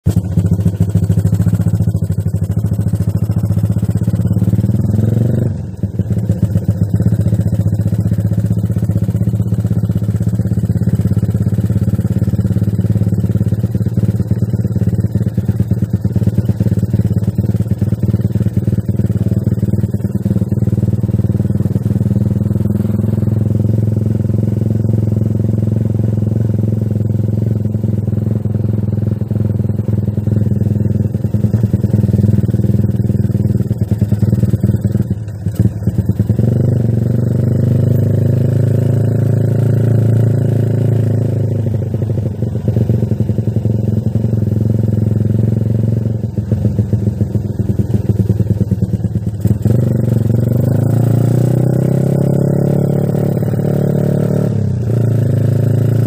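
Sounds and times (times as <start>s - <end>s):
moped engine revving: 0.0s - 56.0s.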